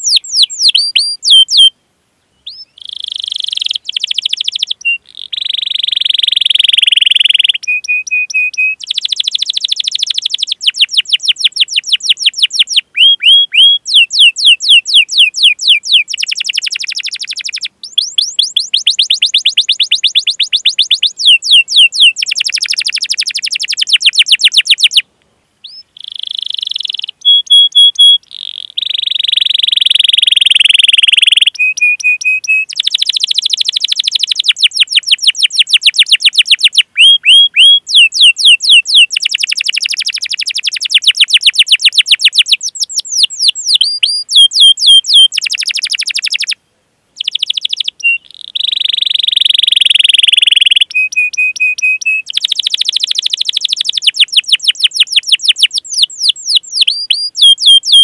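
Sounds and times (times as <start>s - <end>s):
canary singing trills: 0.0s - 25.0s, 25.6s - 46.6s, 47.2s - 58.0s.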